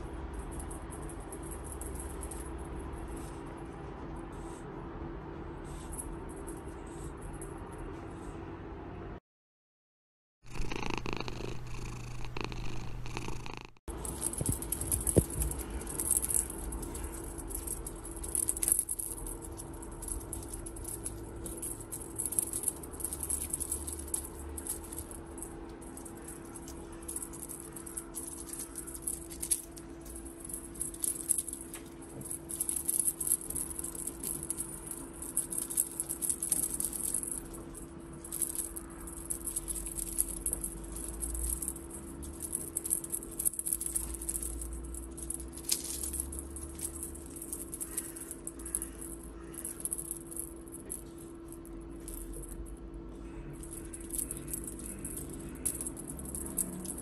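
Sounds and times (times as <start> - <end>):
toy rattle shaken: 0.0 - 4.7, 13.9 - 52.8, 53.5 - 57.0
steady low hum: 0.0 - 9.2, 10.5 - 57.0.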